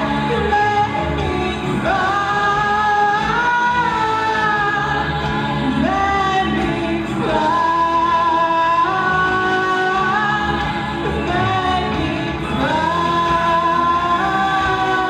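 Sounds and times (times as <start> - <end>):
instrumental backing: 0.0 - 15.0.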